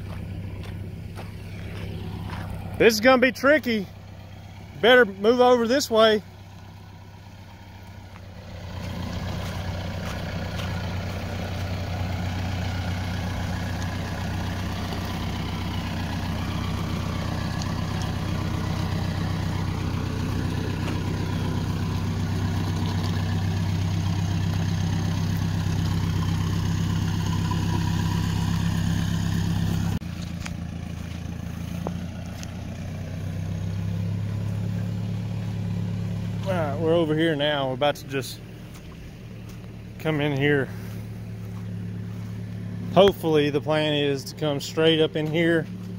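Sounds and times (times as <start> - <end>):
vehicle engine under load: 0.0 - 45.9.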